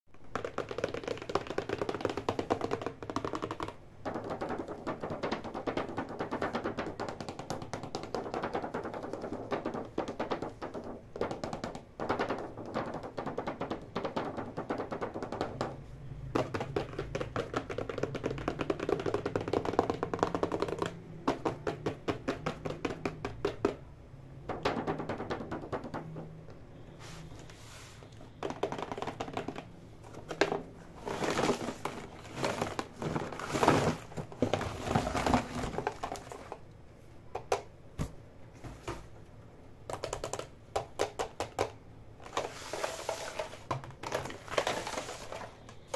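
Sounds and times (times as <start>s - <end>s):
fingernails tapping on plastic: 0.2s - 26.6s, 28.2s - 36.6s, 39.9s - 42.5s.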